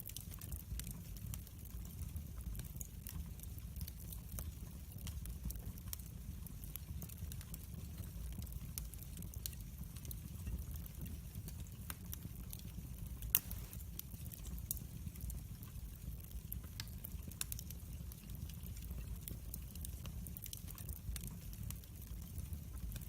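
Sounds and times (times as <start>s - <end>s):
fire crackling and popping: 0.0s - 23.0s
low steady fire rumble: 0.0s - 23.0s.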